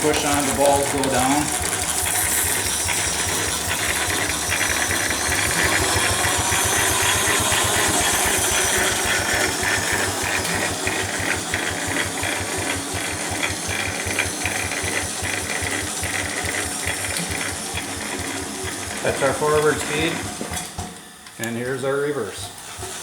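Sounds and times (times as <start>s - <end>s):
steam engine exhausting: 0.0s - 23.0s.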